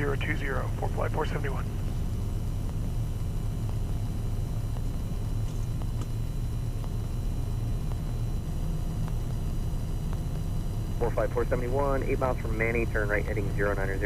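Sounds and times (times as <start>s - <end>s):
jet cockpit engine drone: 0.0s - 14.0s.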